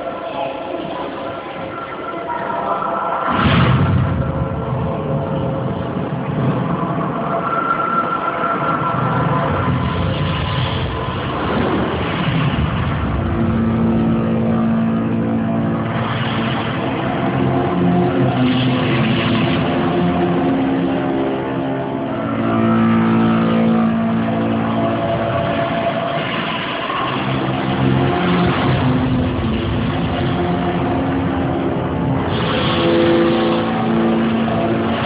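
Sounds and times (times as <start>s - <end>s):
layered droning tones: 0.0s - 35.0s
rumbling haze: 2.6s - 35.0s.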